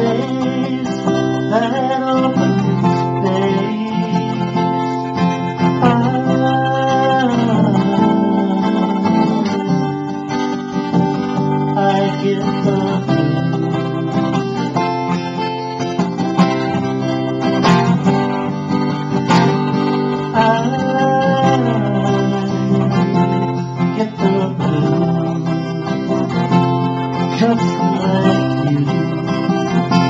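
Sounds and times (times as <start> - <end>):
acoustic guitar strumming: 0.0 - 30.0
harmonica bending notes: 0.0 - 30.0.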